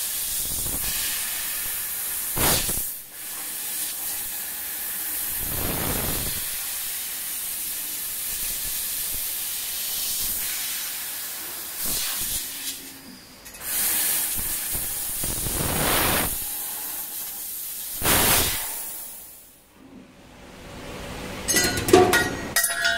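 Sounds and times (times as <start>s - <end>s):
gas hissing from cutting head: 0.0s - 12.9s, 13.6s - 19.5s.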